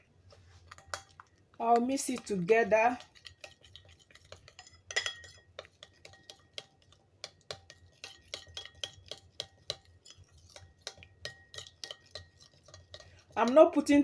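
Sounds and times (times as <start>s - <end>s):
spoon clinking against bowl: 0.7s - 13.7s.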